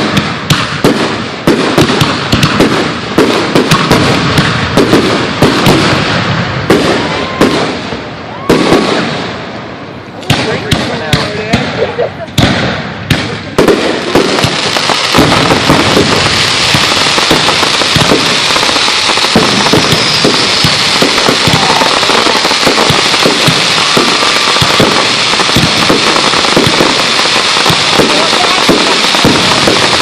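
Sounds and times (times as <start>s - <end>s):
fireworks popping: 0.0s - 9.5s, 10.2s - 30.0s
fireworks crackling: 0.0s - 30.0s.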